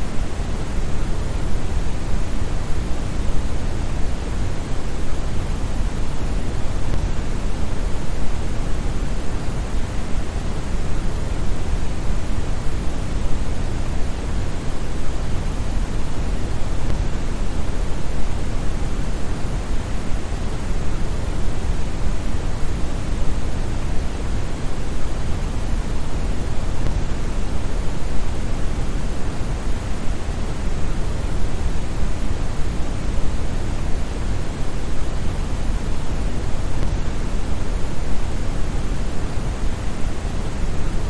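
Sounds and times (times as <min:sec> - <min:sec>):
brown noise hiss: 0:00.0 - 0:41.0.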